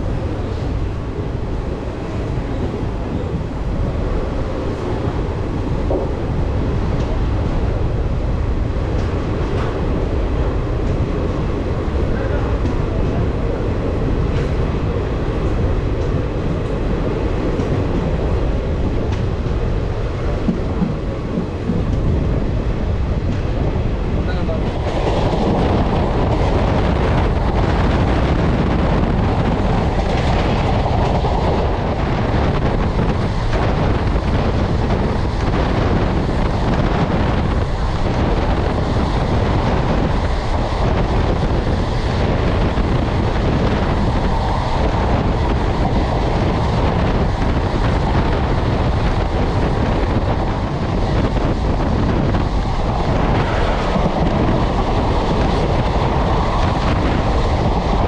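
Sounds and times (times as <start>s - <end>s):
rumble of train wheels on rail: 0.0s - 58.0s
wind noise: 0.0s - 58.0s.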